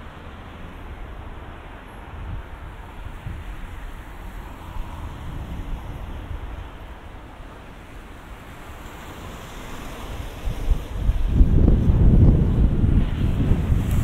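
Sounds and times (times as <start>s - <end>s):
steady rushing hiss: 0.0s - 14.0s
wind buffeting microphone: 0.0s - 14.0s.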